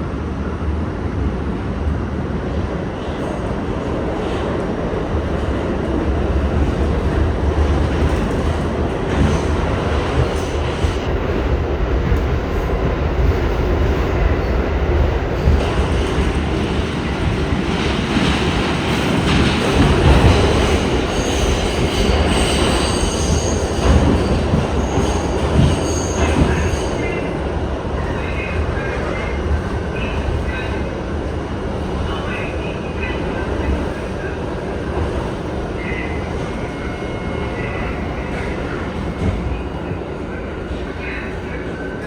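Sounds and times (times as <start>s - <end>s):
subway train rumbling on track: 0.0s - 42.0s.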